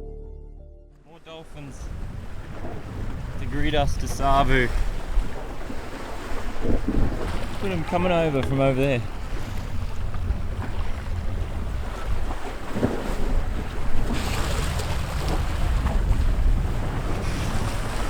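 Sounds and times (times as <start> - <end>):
sea water rushing along hull: 1.1 - 18.0
wind buffeting microphone: 1.5 - 18.0.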